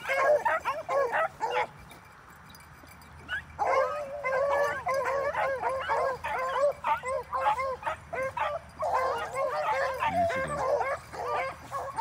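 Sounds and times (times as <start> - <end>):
hounds baying and yelping: 0.0 - 12.0.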